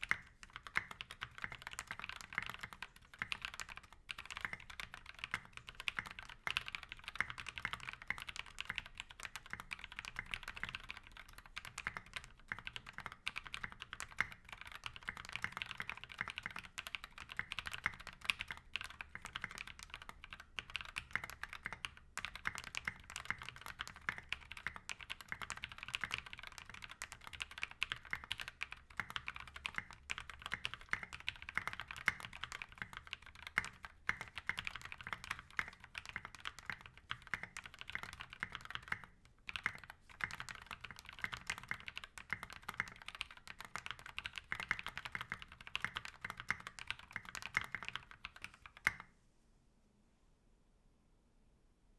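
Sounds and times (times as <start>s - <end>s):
fast mechanical keyboard typing: 0.0s - 49.1s.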